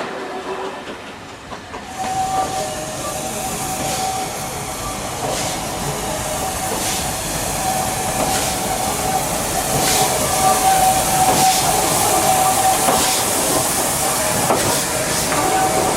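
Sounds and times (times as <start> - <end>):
steam locomotive hissing: 0.0 - 15.9
regular locomotive beat: 0.1 - 15.9.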